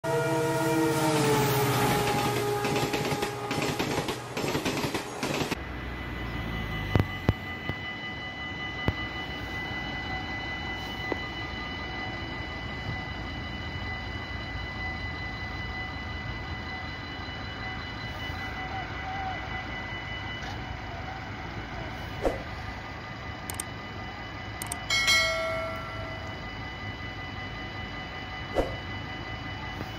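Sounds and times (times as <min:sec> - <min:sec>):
level-crossing warning bells: 0:00.0 - 0:29.9.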